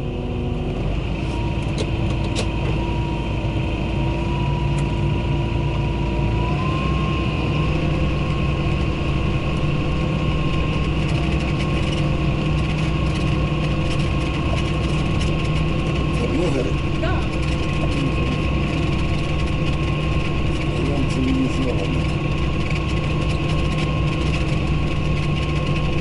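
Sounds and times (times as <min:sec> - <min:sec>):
constant whine: 0:00.0 - 0:26.0
tractor engine running: 0:00.0 - 0:26.0.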